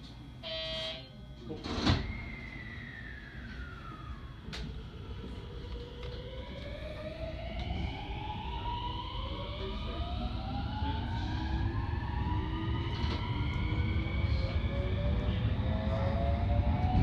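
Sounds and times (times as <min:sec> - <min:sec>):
traction motors whining upward: 0:01.8 - 0:17.0.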